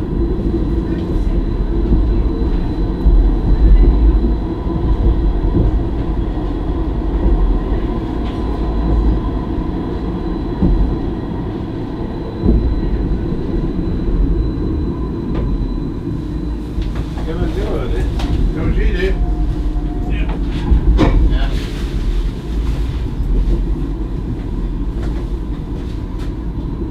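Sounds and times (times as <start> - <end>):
tram wheels rumbling: 0.0 - 26.9.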